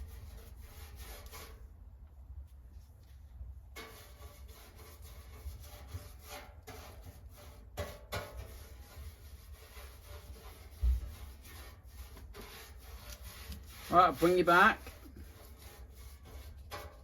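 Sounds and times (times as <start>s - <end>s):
paintbrush rubbing on metal: 0.0s - 1.8s, 3.8s - 17.0s.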